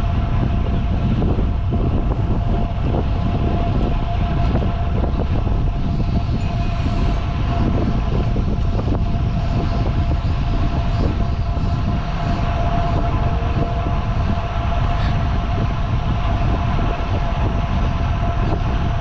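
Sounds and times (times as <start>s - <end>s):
thin steady hum: 0.0s - 19.0s
wind rushing over microphone: 0.0s - 19.0s.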